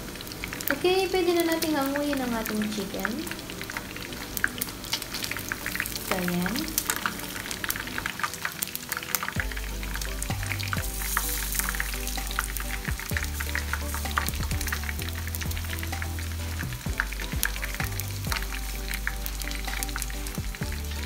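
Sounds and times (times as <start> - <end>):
chicken frying in oil: 0.0 - 21.0
soft background music: 0.0 - 21.0.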